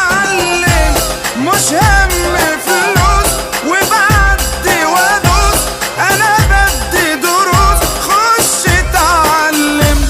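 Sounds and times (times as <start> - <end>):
heavy kick drum beat: 0.0 - 10.0.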